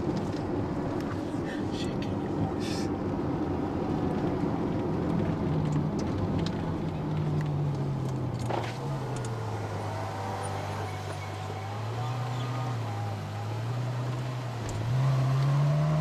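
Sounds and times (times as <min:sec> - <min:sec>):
car engine cruising: 0:00.0 - 0:16.0
road noise: 0:00.0 - 0:16.0.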